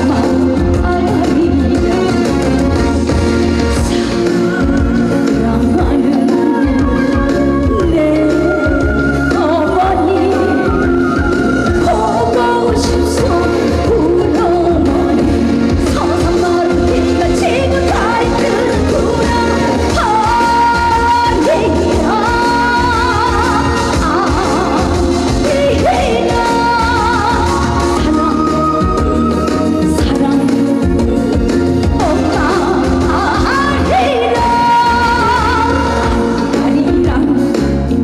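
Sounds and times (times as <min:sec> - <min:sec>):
band accompaniment: 0:00.0 - 0:38.0
woman singing with vibrato: 0:00.0 - 0:38.0.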